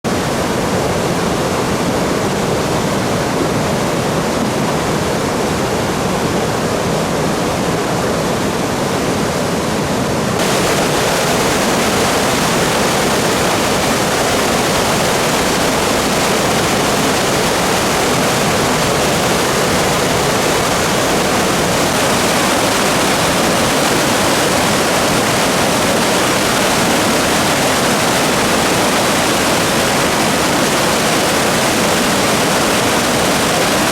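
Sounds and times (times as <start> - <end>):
flooded river roaring: 0.0 - 33.9.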